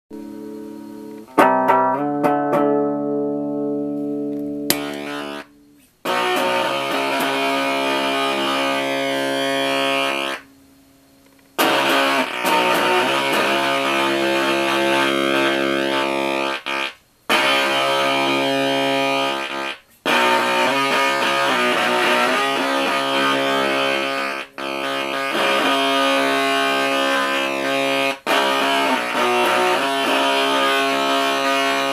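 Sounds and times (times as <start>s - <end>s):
fuzzed electric guitar riffs: 0.1s - 31.9s.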